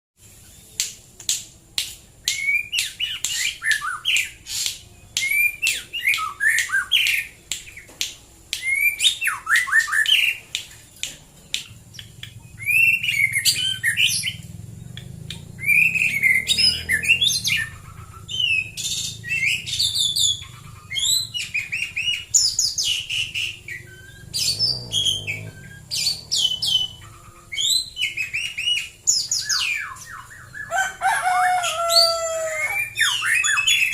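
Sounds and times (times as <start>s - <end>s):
bird singing whistled phrases: 2.2s - 7.9s, 8.6s - 10.4s, 12.0s - 14.4s, 15.3s - 33.9s.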